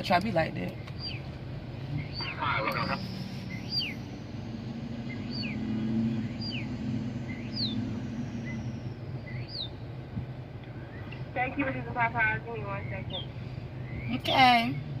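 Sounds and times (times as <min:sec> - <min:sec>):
car idling: 0:00.0 - 0:15.0
bird chirping: 0:00.7 - 0:14.9.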